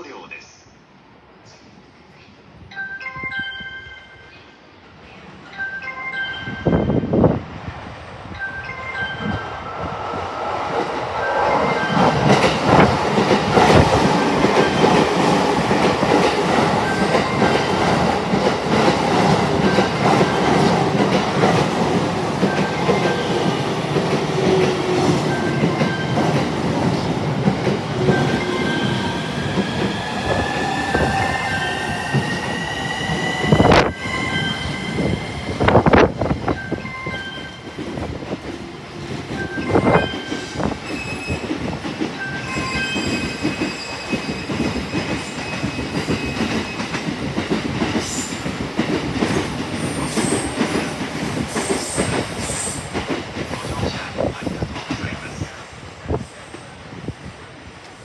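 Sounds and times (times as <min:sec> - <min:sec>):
electric train rumbling: 0:00.9 - 0:58.0.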